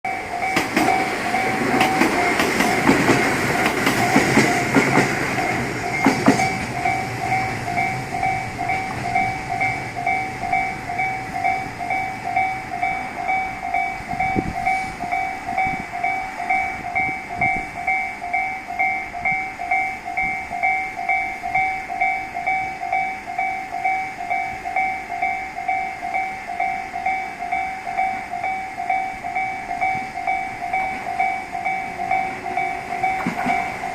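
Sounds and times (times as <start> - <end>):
level-crossing warning bell: 0.0 - 33.9
train clattering past: 0.1 - 33.9.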